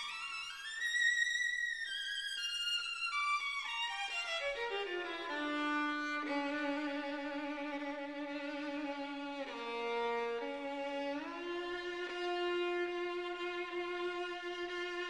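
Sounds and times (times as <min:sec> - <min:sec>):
slow bowed string melody: 0:00.0 - 0:15.0.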